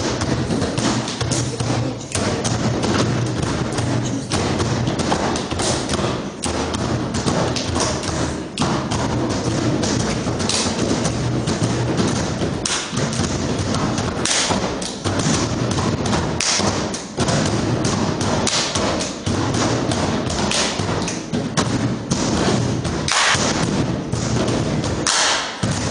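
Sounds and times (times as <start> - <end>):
fast rhythmic percussion: 0.0 - 25.9.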